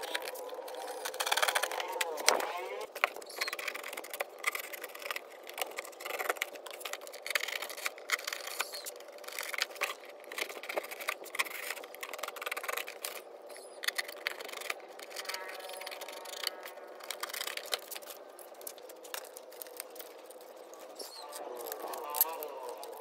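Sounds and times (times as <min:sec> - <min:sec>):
knife cutting cardboard: 0:00.0 - 0:19.9.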